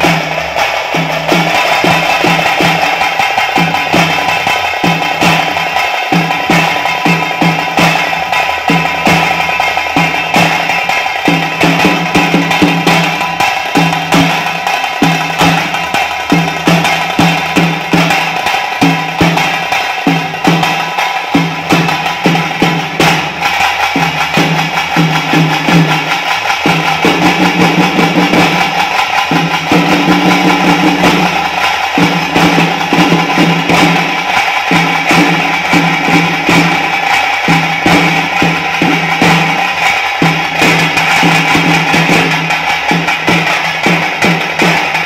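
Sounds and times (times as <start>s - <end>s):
drum-heavy music: 0.0s - 45.0s.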